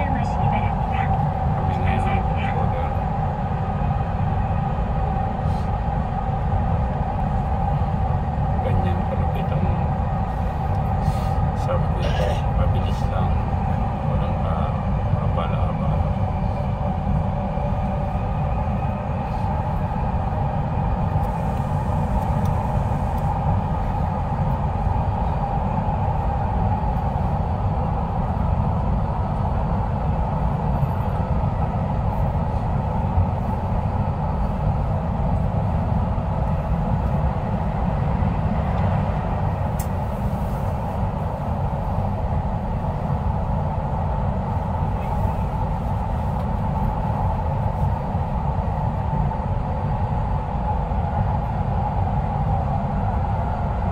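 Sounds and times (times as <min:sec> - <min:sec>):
steady train hum: 0:00.0 - 0:53.9
wheels rumbling on rails: 0:00.0 - 0:53.9.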